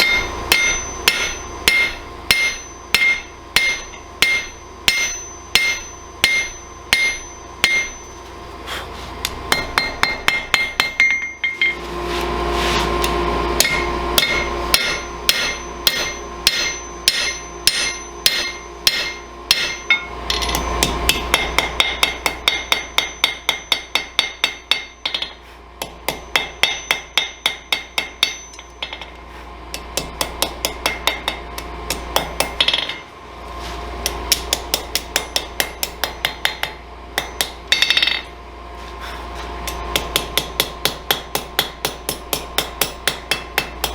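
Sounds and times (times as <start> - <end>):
hammer striking metal on anvil: 0.0 - 8.3, 9.2 - 11.8, 13.0 - 33.1, 34.0 - 38.4, 39.6 - 43.9
steady low hum: 0.0 - 43.9.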